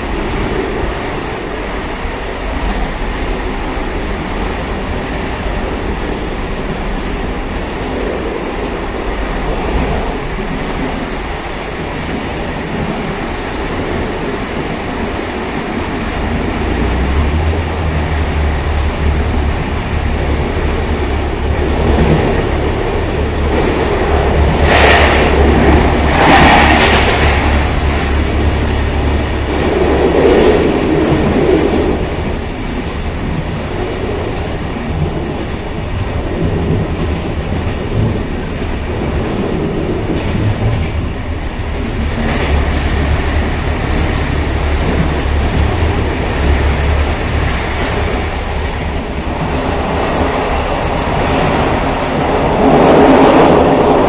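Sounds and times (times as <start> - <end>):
railcar wheels rumbling on rail: 0.0 - 54.0.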